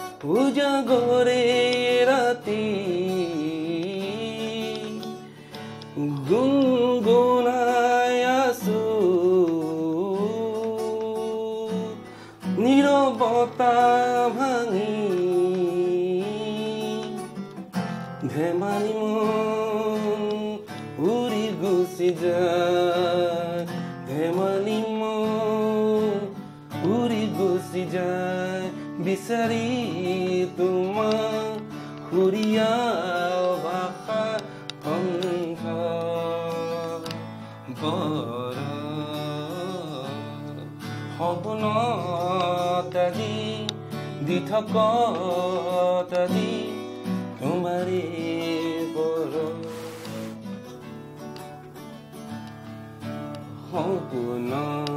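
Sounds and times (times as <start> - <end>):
man singing: 0.0 - 50.6, 53.0 - 54.9
acoustic guitar: 0.0 - 54.9.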